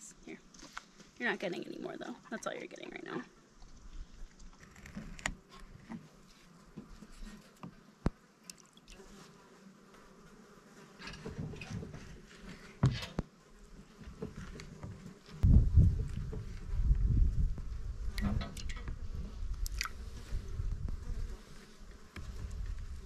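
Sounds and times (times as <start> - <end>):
flies buzzing: 0.2 - 23.0.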